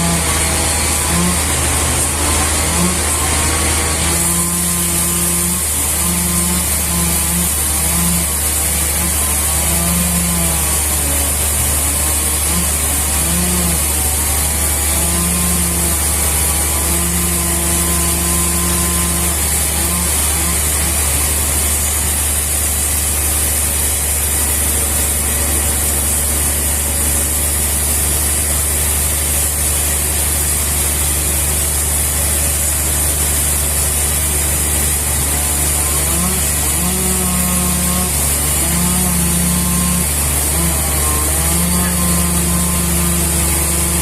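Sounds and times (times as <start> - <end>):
machine engine running steadily: 0.0 - 44.0.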